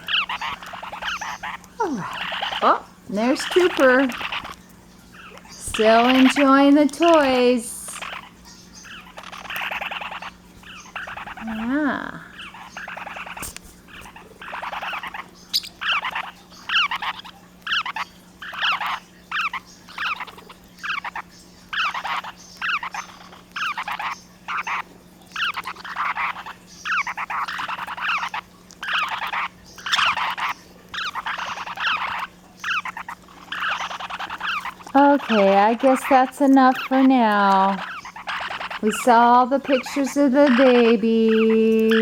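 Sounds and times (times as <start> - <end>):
parrots chattering: 0.0 - 42.0.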